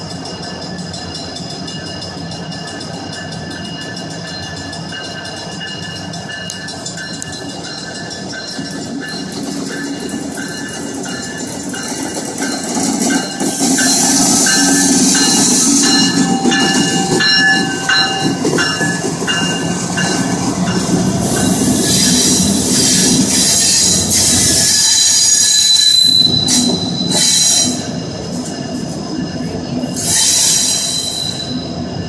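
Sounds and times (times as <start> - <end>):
diesel locomotive engine rumble: 0.0 - 32.0
train wheels on rails: 0.0 - 32.0.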